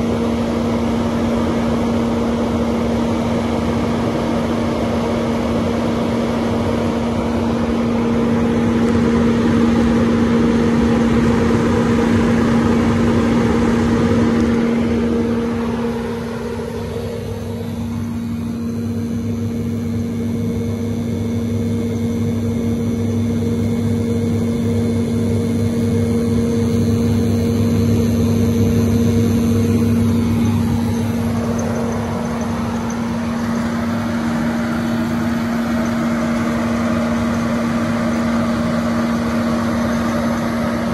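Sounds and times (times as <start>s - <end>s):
burner rushing roar: 0.0s - 21.3s, 25.1s - 40.9s
machine hum with low tone: 0.0s - 40.9s.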